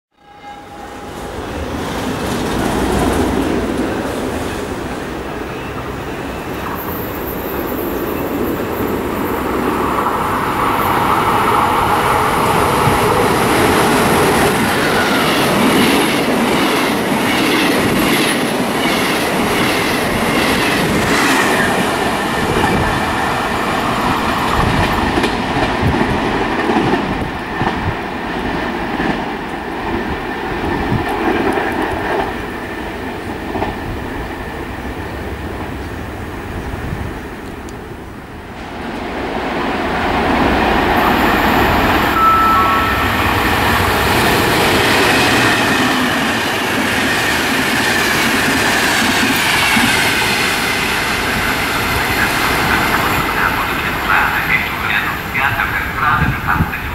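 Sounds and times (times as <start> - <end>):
passing train running noise: 0.2 - 56.9.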